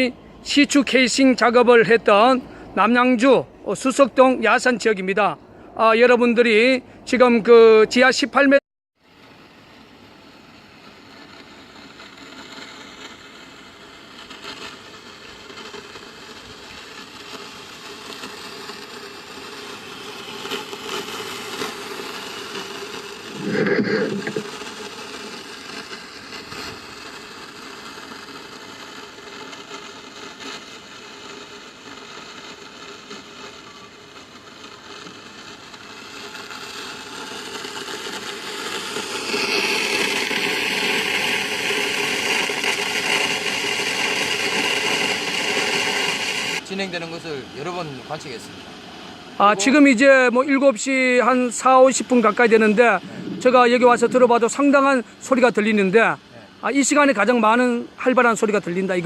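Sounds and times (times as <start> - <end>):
underground rushing noise: 10.4 - 59.0.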